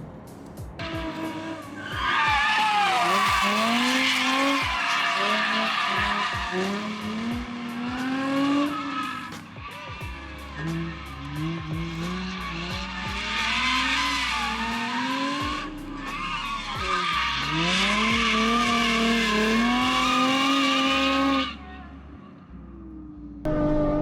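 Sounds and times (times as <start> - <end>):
car engine revving hard: 0.8 - 21.6
tyres squealing: 0.8 - 21.6.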